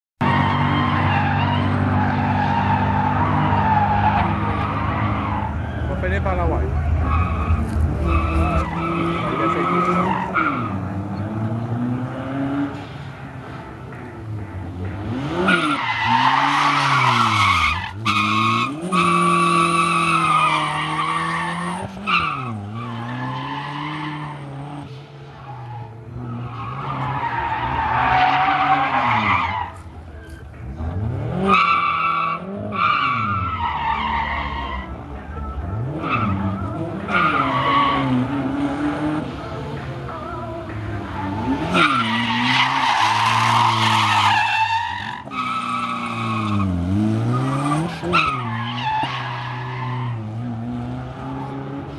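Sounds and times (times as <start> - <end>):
tires squealing: 0.2 - 51.9
car engine revving: 0.3 - 51.9.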